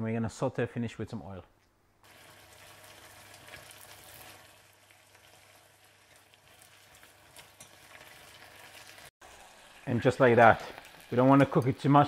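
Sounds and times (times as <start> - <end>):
vegetables sizzling faintly in pan: 2.0 - 12.0.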